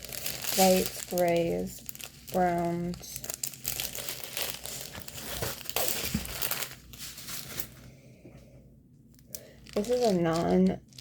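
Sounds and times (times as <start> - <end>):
packaging crinkling and rustling: 0.0 - 7.9, 9.2 - 11.0.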